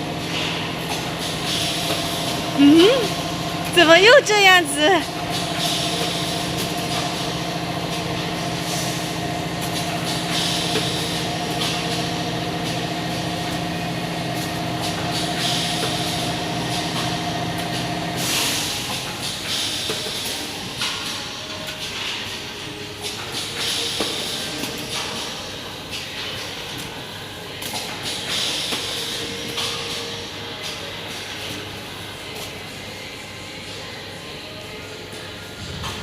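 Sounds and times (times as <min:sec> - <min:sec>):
machine humming with rhythmic clatter: 0:00.0 - 0:36.0.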